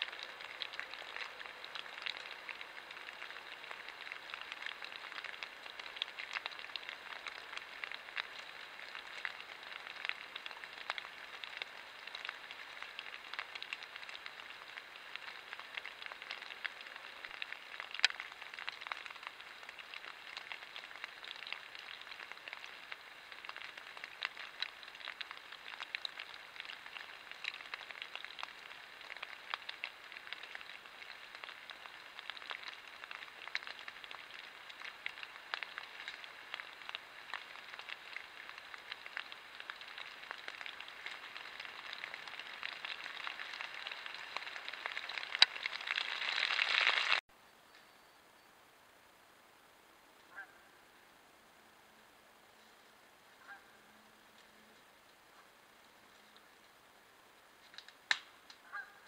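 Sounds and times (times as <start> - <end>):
water drops pattering on leaves: 0.0 - 47.2, 54.3 - 59.0
faint steady hiss: 0.0 - 59.0.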